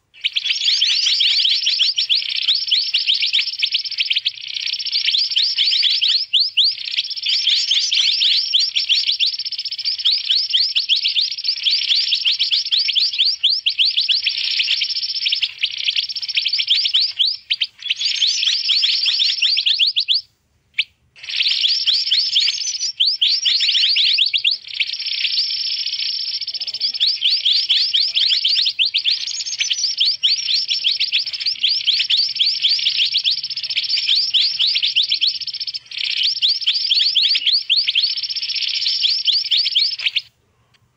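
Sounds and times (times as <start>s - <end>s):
birds chirping and trilling: 0.0s - 40.3s.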